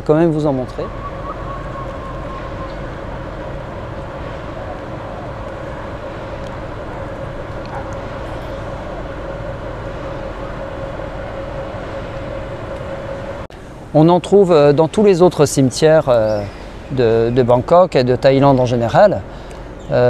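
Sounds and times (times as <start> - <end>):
city background noise: 0.0 - 20.0
constant hum: 0.0 - 20.0.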